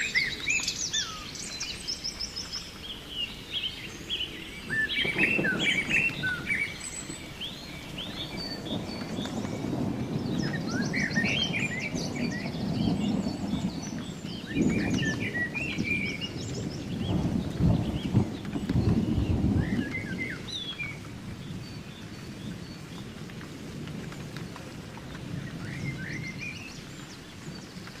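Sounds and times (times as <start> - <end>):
birds chirping and trilling: 0.0 - 23.2, 24.4 - 27.9.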